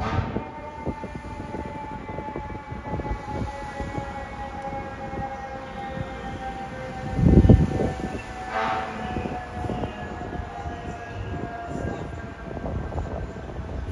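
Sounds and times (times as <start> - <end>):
street traffic rumble: 0.0 - 13.9
mechanical siren winding down: 0.4 - 12.2.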